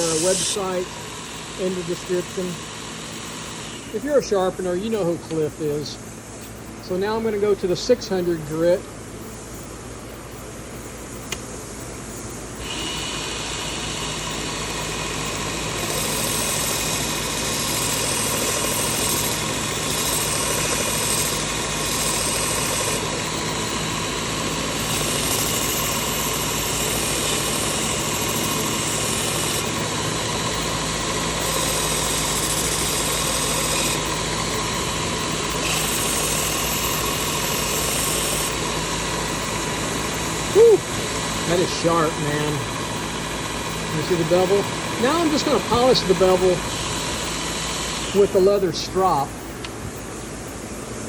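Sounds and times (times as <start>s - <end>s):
blade grinding on belt: 0.0s - 5.2s, 12.6s - 49.5s
sharpener motor hum: 0.0s - 5.8s, 12.4s - 50.8s.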